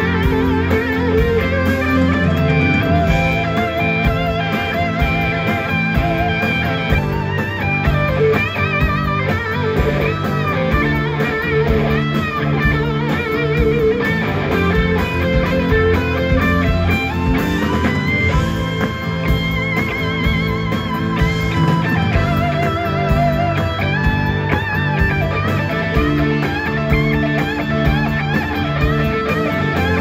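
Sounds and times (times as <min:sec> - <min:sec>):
blues-rock band playing live: 0:00.0 - 0:30.0
electric guitar lead with vibrato: 0:00.0 - 0:30.0.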